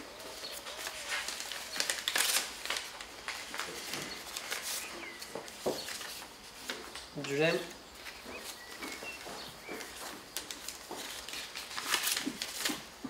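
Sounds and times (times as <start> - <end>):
paper rustling and crackling: 0.0 - 13.0.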